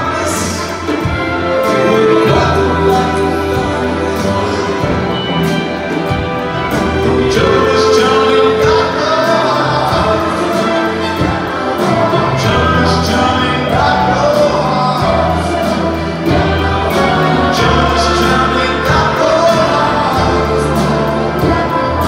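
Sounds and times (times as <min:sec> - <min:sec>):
piano: 0:00.0 - 0:22.0
rock band with orchestra: 0:00.0 - 0:22.0
upright bass: 0:00.0 - 0:22.0.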